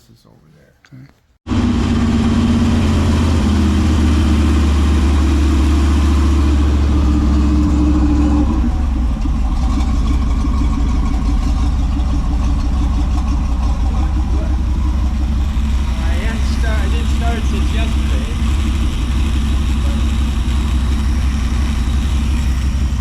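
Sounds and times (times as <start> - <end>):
car engine idling: 1.5 - 23.0.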